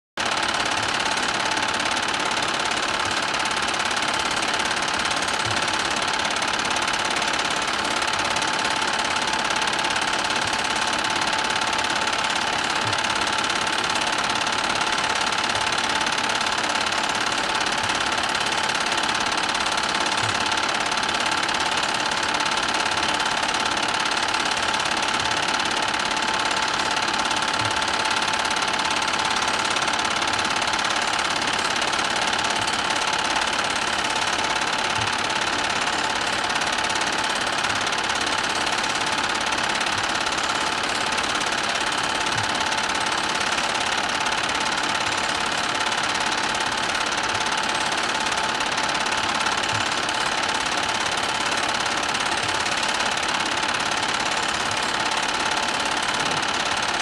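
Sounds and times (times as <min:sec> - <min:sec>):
film projector whirring: 0:00.2 - 0:57.0.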